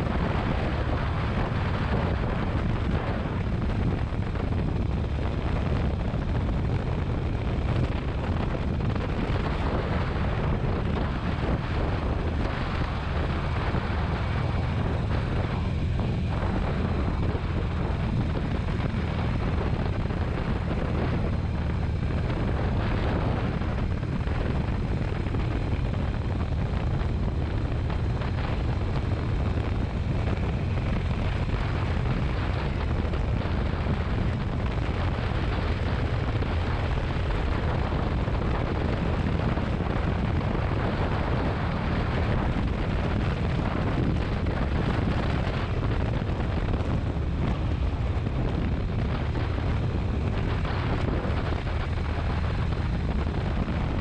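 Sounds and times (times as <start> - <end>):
motorcycle engine: 0.0 - 54.0
wind rumble on microphone: 0.0 - 54.0.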